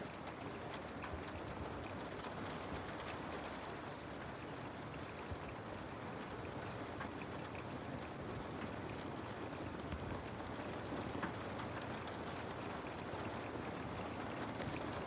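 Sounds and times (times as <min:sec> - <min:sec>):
raindrops ticking: 0:00.0 - 0:15.0
steady rain: 0:00.0 - 0:15.0.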